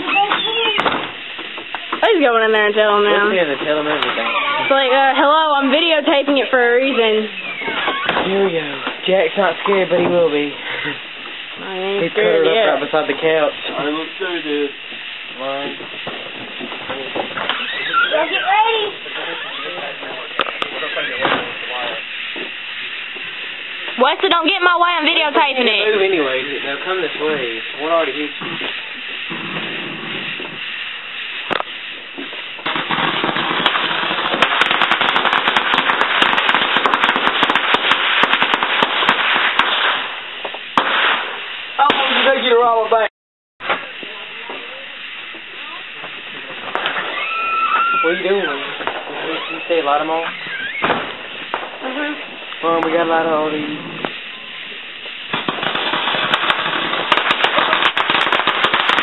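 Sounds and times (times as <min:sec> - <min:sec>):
firecrackers popping: 0:00.0 - 0:59.0.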